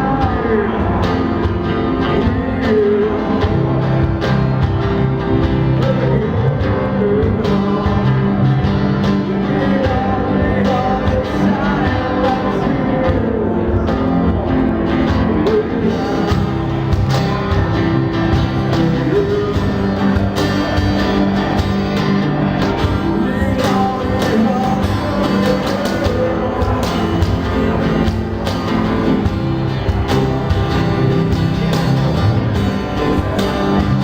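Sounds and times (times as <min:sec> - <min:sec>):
person singing: 0:00.0 - 0:21.8, 0:22.4 - 0:34.0
strummed acoustic guitars: 0:00.0 - 0:34.0.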